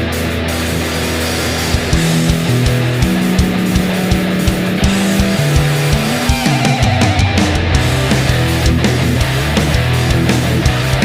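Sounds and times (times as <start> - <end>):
heavy rock music: 0.0 - 11.0
drum beat: 0.6 - 11.0.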